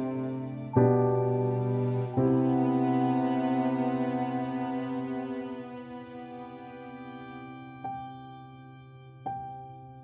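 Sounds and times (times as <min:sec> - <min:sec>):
slow sad music: 0:00.0 - 0:10.0.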